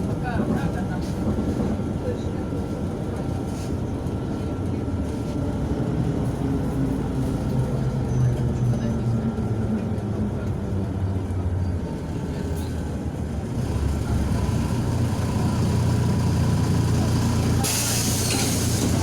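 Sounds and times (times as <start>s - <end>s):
bus diesel engine rumbling: 0.0s - 19.0s.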